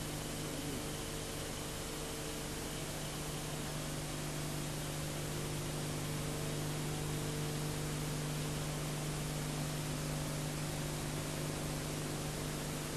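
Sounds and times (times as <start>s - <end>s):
low electrical hum: 0.0s - 12.9s.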